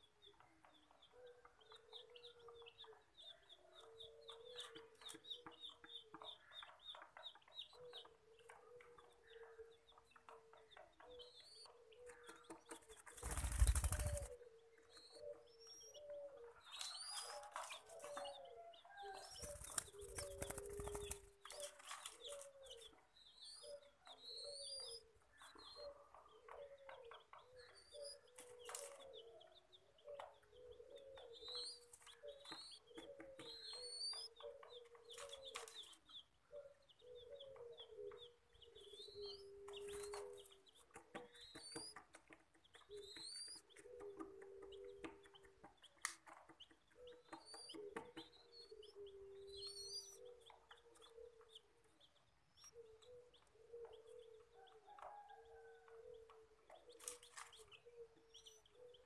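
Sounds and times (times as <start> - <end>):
low clucking bird calls: 0.0 - 59.0.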